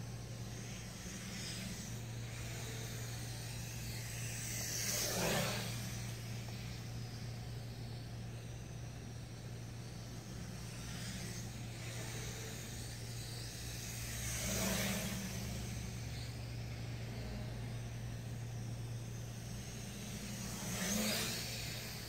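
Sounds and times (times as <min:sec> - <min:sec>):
drone propellers whirring: 0:00.0 - 0:22.0.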